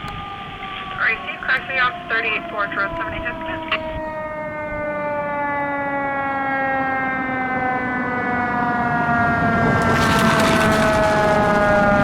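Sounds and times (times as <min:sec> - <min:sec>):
fire truck siren wailing: 0:00.0 - 0:12.0.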